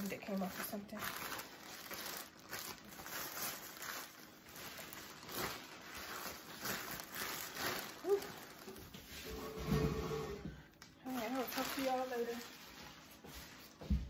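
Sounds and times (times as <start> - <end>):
plastic bags rustling and crinkling: 0.0 - 14.0.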